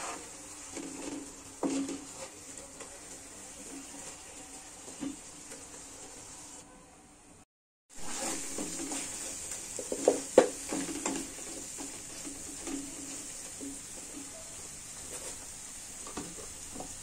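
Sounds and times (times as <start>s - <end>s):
sauce sizzling in a wok: 0.0s - 6.6s, 7.9s - 17.0s
wooden spatula scraping: 0.0s - 6.6s, 7.9s - 15.6s.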